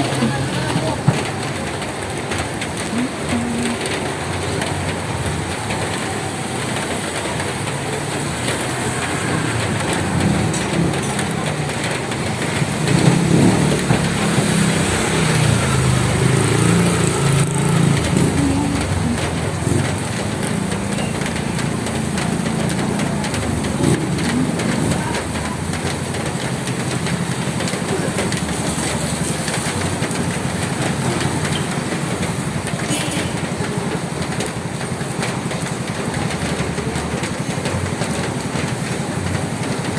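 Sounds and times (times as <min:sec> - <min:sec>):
low engine rumble: 0:00.0 - 0:39.9
rain on a roof: 0:00.0 - 0:39.9.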